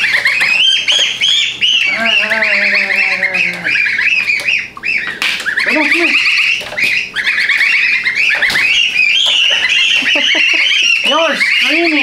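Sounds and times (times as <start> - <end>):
goslings peeping: 0.0 - 12.0.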